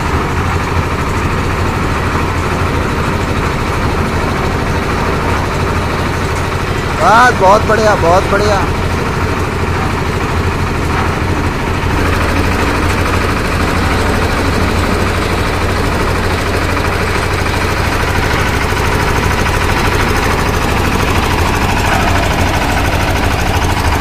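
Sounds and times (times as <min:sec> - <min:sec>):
concrete mixer engine knocking: 0:00.0 - 0:24.0
low engine hum: 0:00.0 - 0:24.0.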